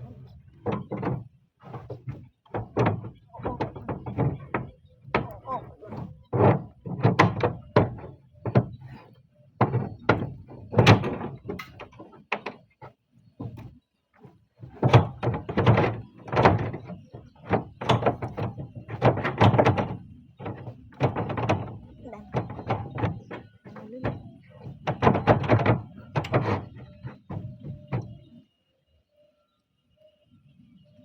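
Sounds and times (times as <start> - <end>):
knocks and thuds on roof tiles: 0.1 - 28.4.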